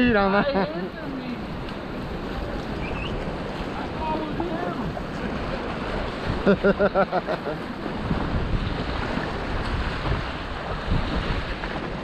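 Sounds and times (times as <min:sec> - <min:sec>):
whitewater rapid rushing: 0:00.0 - 0:12.0
wind buffeting microphone: 0:00.0 - 0:12.0.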